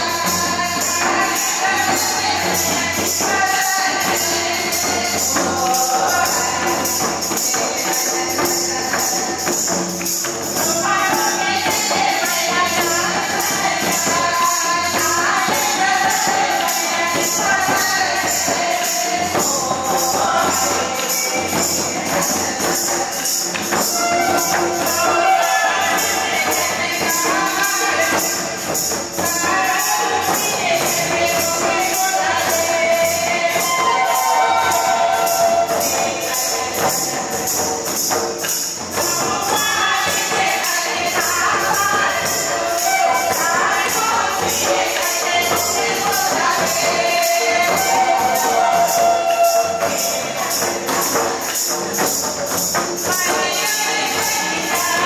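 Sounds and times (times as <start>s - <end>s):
barrel drums beating: 0.0s - 55.0s
jingling metal percussion: 0.0s - 55.0s
voices singing: 0.0s - 55.0s.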